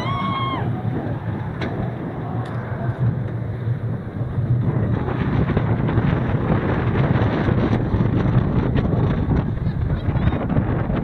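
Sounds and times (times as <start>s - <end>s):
roller coaster rumbling: 0.0s - 11.0s
wind rush: 0.0s - 11.0s.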